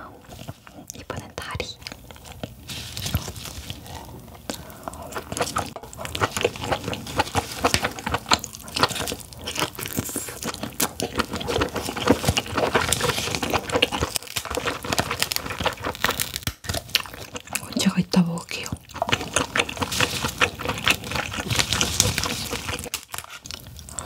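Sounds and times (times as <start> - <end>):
crab being bitten and chewed: 1.8 - 24.0.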